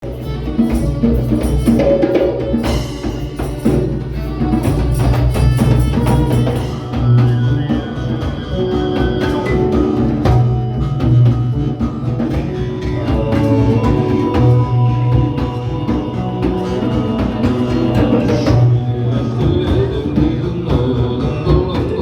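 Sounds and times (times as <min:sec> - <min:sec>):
drums: 0:00.0 - 0:22.0
pitched instruments playing: 0:00.0 - 0:22.0
wood block percussion: 0:00.0 - 0:22.0.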